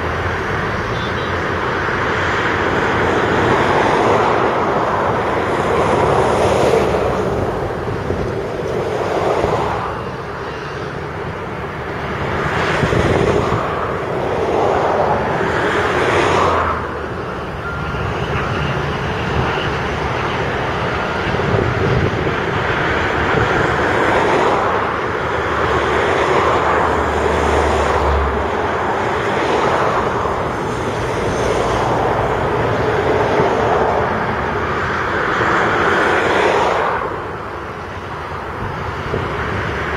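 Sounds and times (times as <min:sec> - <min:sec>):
heavy diesel machinery engines: 0:00.0 - 0:39.9.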